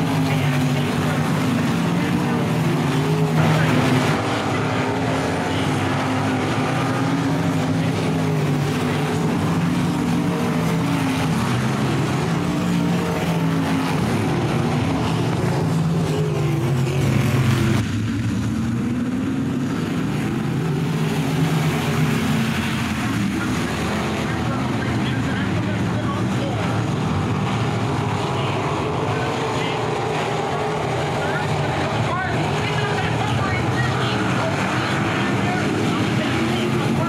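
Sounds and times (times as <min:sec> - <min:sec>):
race car engines at speed: 0:00.0 - 0:37.0.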